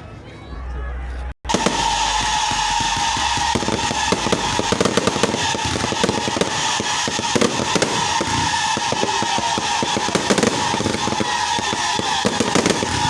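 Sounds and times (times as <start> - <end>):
steady high tone: 0.5 - 12.8
fireworks crackling: 1.4 - 13.0.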